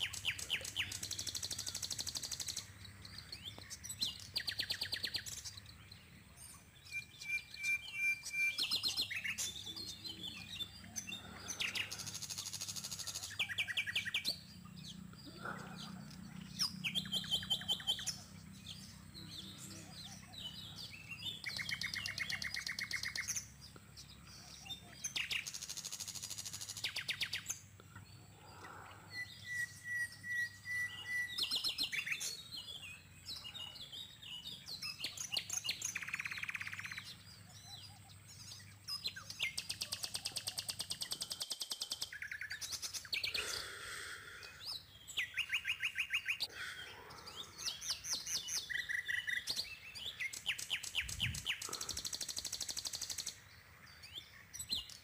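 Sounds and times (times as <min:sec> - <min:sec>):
birds chirping trills and rattles: 0:00.0 - 0:55.0.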